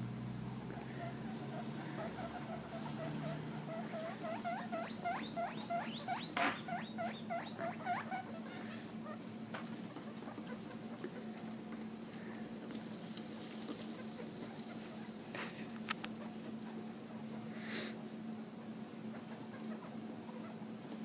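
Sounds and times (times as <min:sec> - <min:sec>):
guinea pig squeaking: 0:00.8 - 0:11.8, 0:12.9 - 0:15.2, 0:15.9 - 0:17.5, 0:18.6 - 0:21.0.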